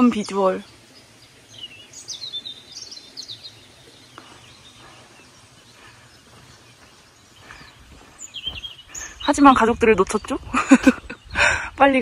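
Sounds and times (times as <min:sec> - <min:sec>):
flowing water: 0:00.0 - 0:12.0
small birds chirping: 0:00.0 - 0:12.0.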